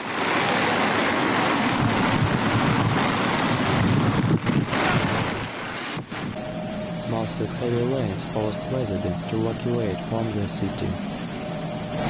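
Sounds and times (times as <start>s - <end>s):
rain and floodwater rushing: 0.0s - 12.0s
wind buffeting microphone: 0.1s - 10.1s.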